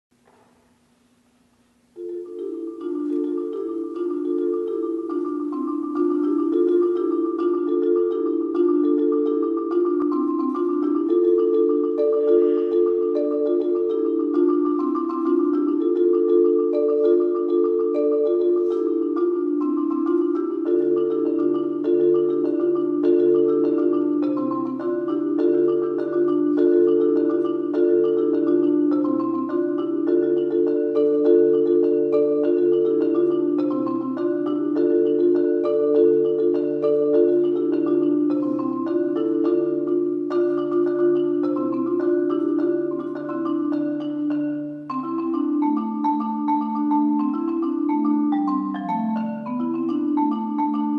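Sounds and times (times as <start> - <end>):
marimba played with mallets: 0.2 - 50.9.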